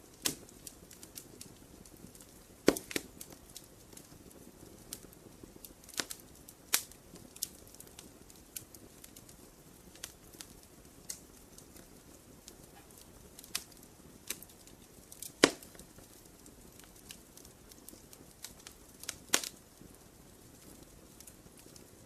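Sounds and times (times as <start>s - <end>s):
campfire low rumble: 0.0s - 22.0s
fire crackles and pops: 0.0s - 22.0s.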